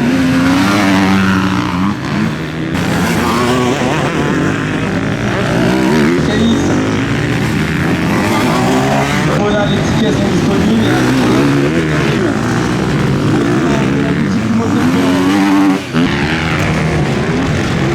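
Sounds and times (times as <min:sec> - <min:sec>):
motocross bike engines revving: 0:00.0 - 0:17.9.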